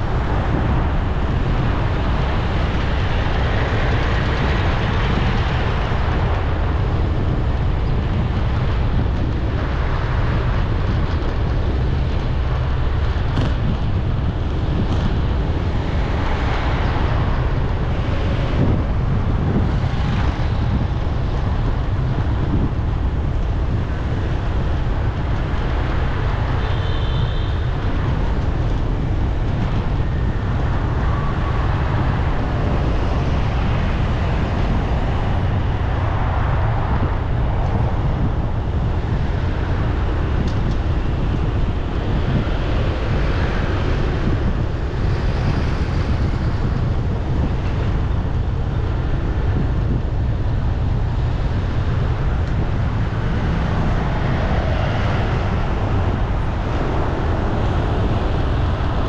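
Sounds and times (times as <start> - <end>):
city street traffic: 0.0 - 59.0
wind rumbling on microphone: 0.0 - 59.0.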